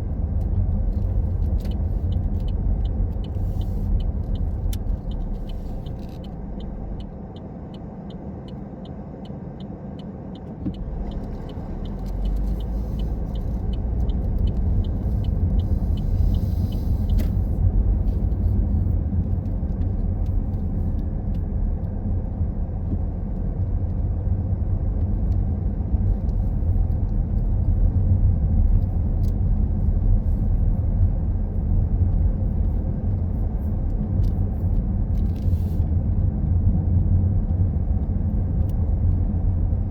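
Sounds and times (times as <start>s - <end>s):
car engine and road rumble: 0.0s - 39.9s
turn signal ticking: 0.0s - 39.9s.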